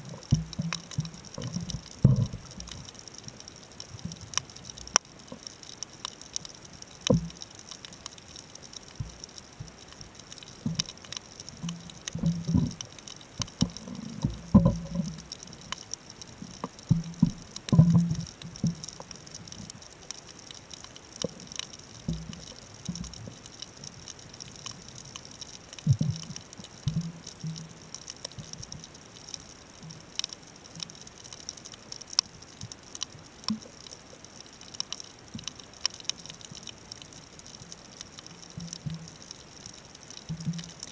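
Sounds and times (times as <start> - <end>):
crackle of small clicks underwater: 0.0 - 40.9.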